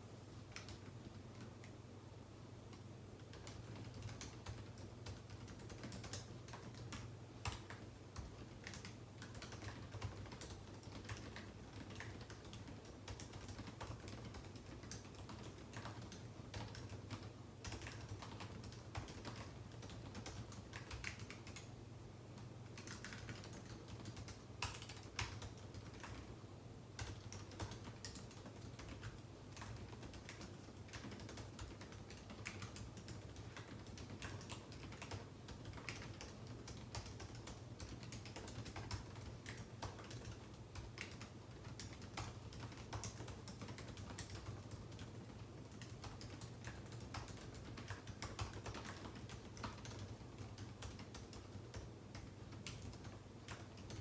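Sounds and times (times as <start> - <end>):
typing on computer keyboard: 0.5 - 1.8, 2.7 - 21.8, 22.6 - 26.4, 27.0 - 54.0.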